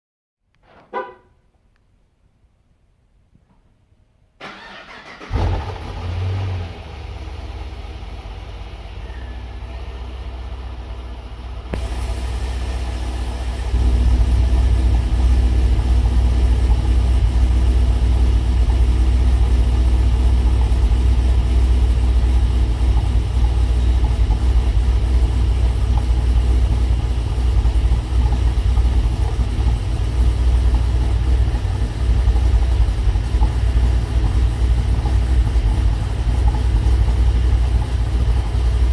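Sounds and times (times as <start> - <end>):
car engine starting and idling: 4.4 - 38.9.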